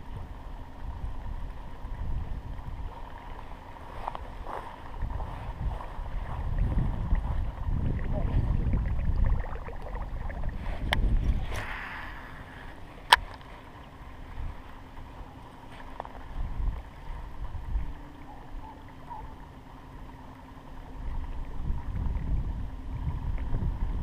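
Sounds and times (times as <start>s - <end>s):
wind buffeting microphone: 0.0s - 15.2s, 16.0s - 19.2s, 21.0s - 24.0s
faint steady hum: 0.0s - 24.0s.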